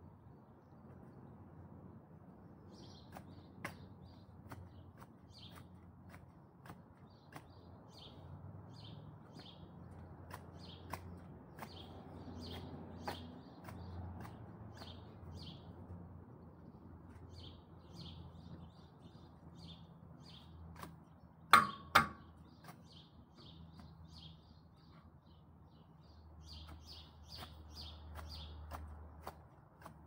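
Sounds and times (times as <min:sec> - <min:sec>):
small bird chirping: 0:02.6 - 0:30.0.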